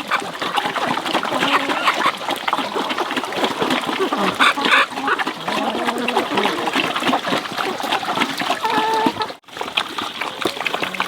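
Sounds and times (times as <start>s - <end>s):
farm animals calling: 0.0s - 9.4s, 10.0s - 11.0s.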